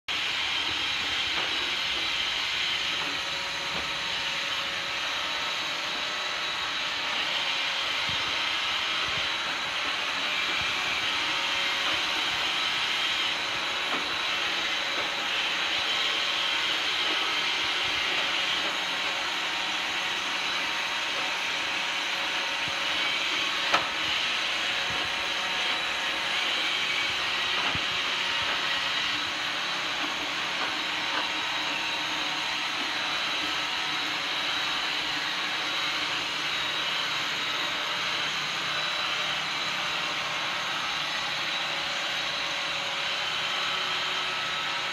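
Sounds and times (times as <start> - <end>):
robot vacuum whirring: 0.1 - 44.9.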